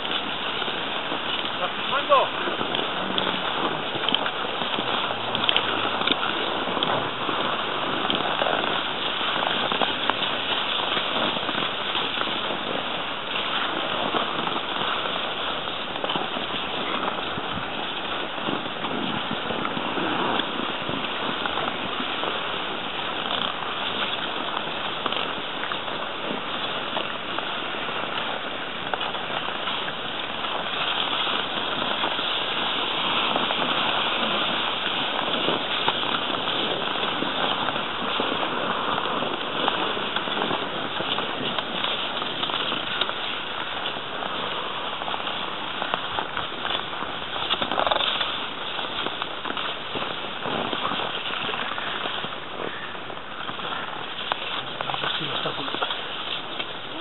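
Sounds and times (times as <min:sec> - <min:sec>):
skis sliding over snow: 0:00.0 - 0:57.0.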